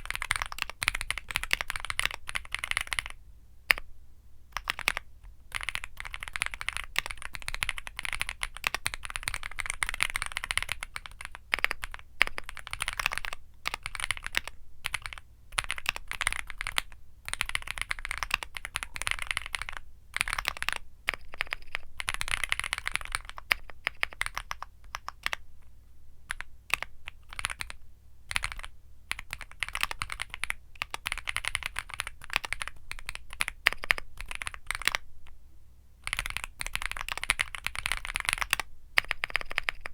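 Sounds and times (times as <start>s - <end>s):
mechanical keyboard typing: 0.0s - 3.8s, 4.6s - 25.4s, 26.3s - 35.0s, 36.0s - 39.9s.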